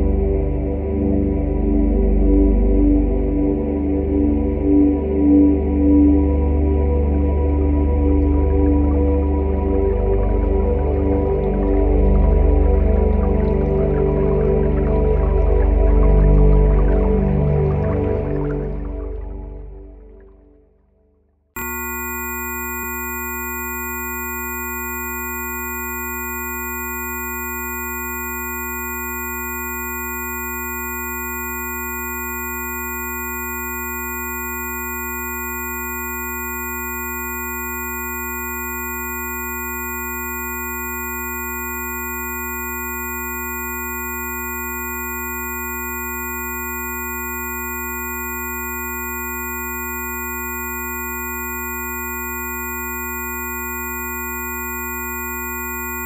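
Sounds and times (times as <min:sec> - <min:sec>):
electronic pure tones: 0:01.2 - 0:20.4, 0:21.6 - 0:56.0.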